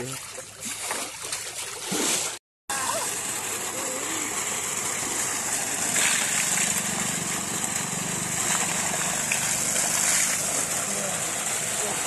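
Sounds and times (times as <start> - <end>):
water gushing from pipe and splashing: 0.0 - 12.0.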